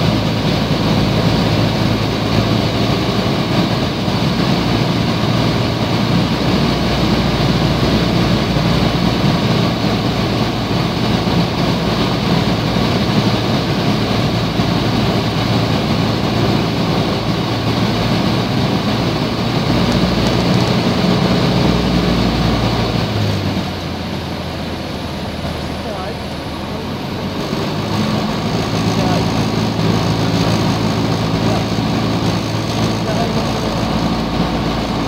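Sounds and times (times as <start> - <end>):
airplane engine and propeller droning: 0.0 - 35.0.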